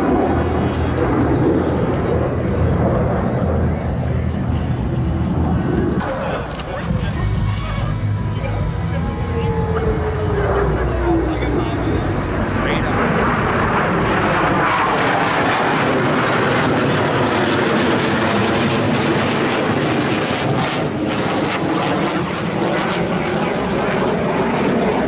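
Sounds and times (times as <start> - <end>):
jet noise in flight: 0.0 - 25.0.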